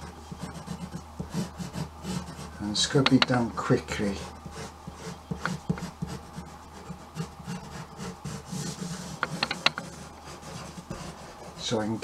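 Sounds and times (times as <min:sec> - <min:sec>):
pen scratching across paper: 0:00.0 - 0:02.6, 0:04.0 - 0:11.8.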